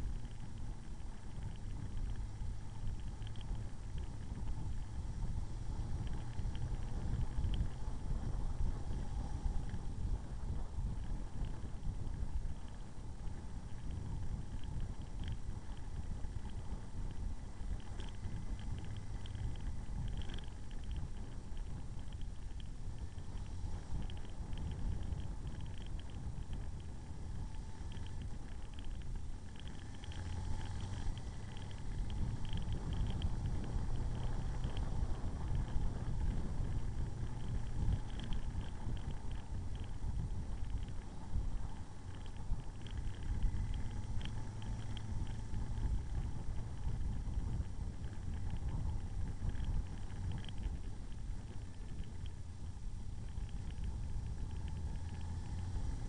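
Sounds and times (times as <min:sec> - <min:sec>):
motorcycle engine rumble: 0:00.0 - 0:56.0
wind noise on microphone: 0:00.0 - 0:56.0.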